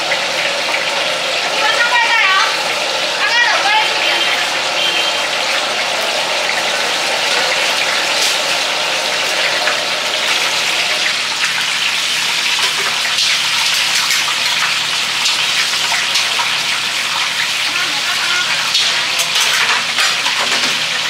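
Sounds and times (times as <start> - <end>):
faint crackles in frying oil: 0.0 - 21.0
oil sizzling in a wok: 0.0 - 21.0.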